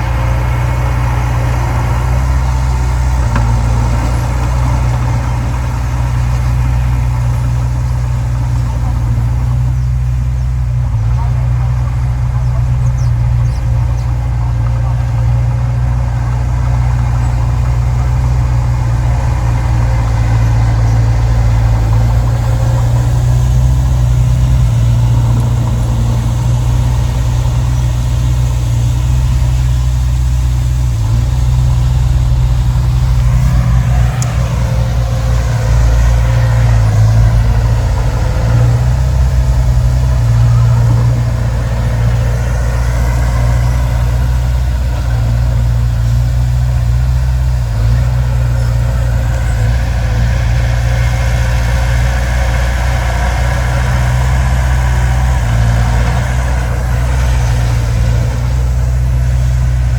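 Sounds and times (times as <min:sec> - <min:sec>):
diesel engine running: 0:00.0 - 0:59.9
machine whine: 0:00.0 - 0:59.9.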